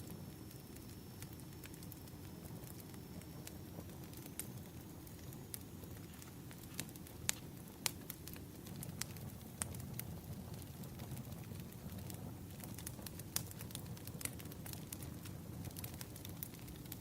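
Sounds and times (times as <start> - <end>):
low rumble of burning logs: 0.0 - 17.0
wood fire pops and snaps: 0.0 - 17.0.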